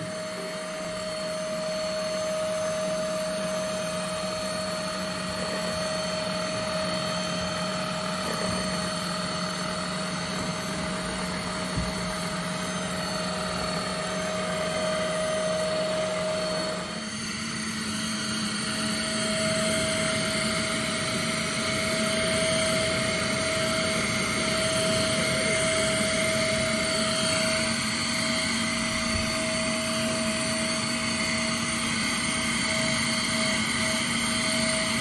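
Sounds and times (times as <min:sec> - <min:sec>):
handheld vacuum cleaner running: 0:00.0 - 0:35.0.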